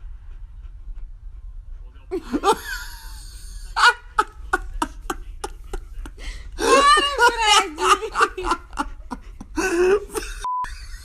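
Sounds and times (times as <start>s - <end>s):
person laughing: 2.1s - 11.0s.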